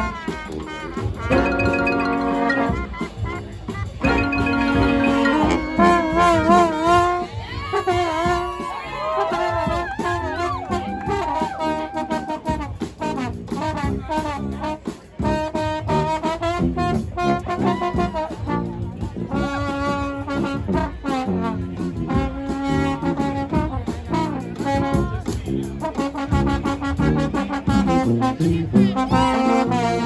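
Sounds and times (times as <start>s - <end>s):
brass band playing: 0.0s - 30.0s
steady drum beat: 0.0s - 30.0s.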